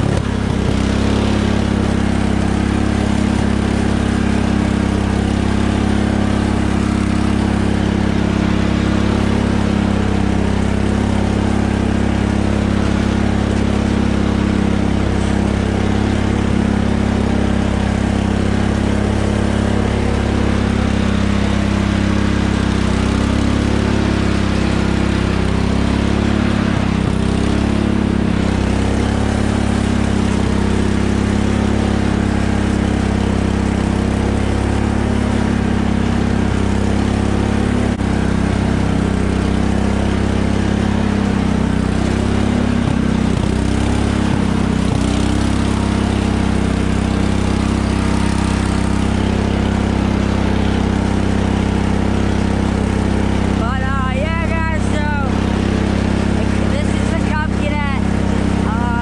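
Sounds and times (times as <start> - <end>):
lawn tractor engine running: 0.0 - 59.0.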